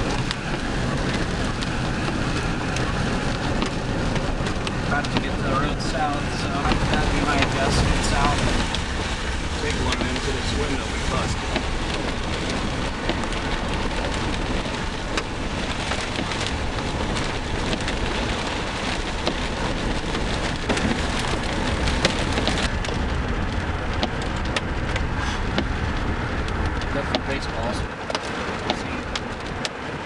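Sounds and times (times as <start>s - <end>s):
heavy rain drumming on car roof: 0.0s - 30.0s.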